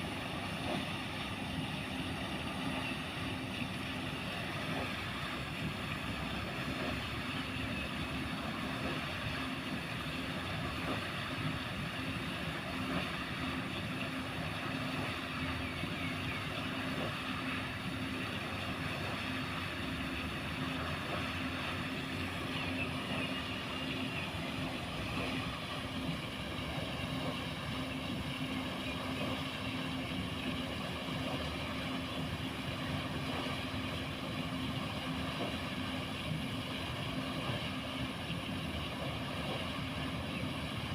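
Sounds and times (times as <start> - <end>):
low motor hum: 0.0 - 40.9
water wheel churning water: 0.0 - 40.9.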